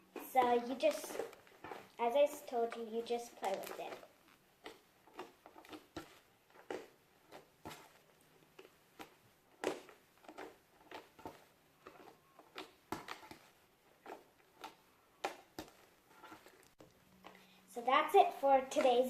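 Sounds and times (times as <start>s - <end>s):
slime squishing by hand: 0.0s - 19.0s.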